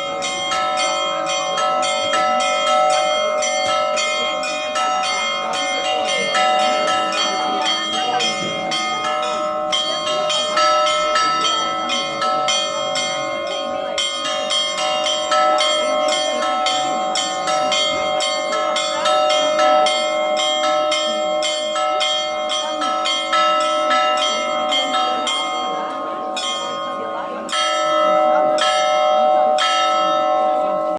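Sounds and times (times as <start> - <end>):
lower bells ringing: 0.0 - 30.9
small bells struck rapidly: 0.0 - 30.9.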